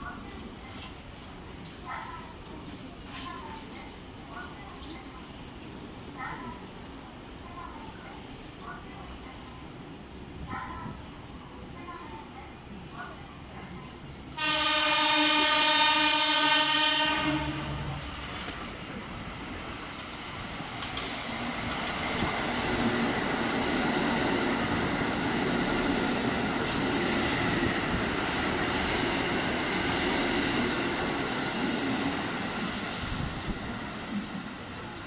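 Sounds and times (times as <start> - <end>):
wheels rumbling on rail: 0.0 - 35.0.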